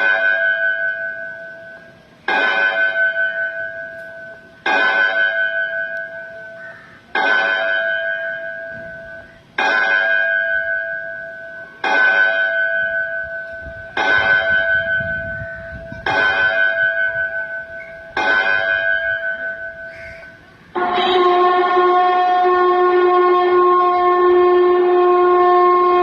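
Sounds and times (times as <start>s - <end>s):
temple bell ringing: 0.0s - 26.0s.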